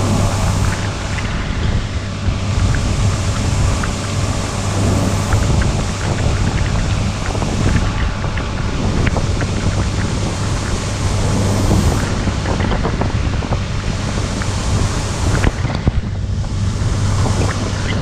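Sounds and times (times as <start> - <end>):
combine harvester running: 0.0 - 18.0
wind buffeting microphone: 0.0 - 18.0.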